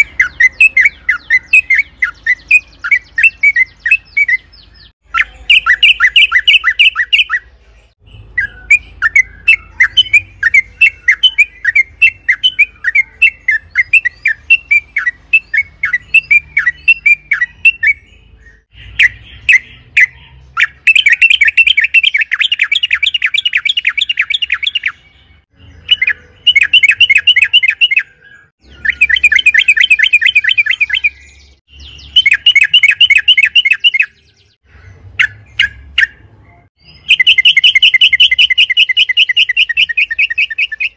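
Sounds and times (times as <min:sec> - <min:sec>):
bird chattering and trilling song: 0:00.0 - 0:40.9.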